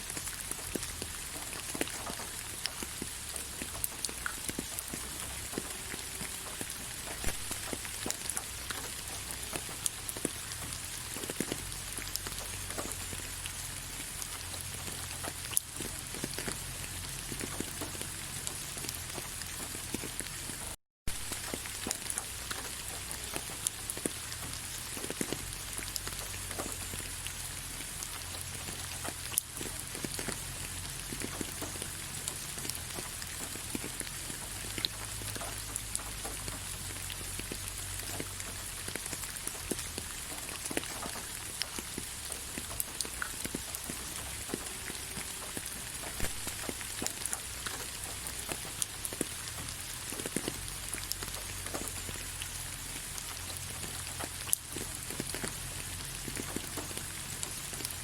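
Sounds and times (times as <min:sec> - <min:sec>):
rain on leaves: 0:00.0 - 0:58.0
raindrops ticking: 0:00.0 - 0:58.0.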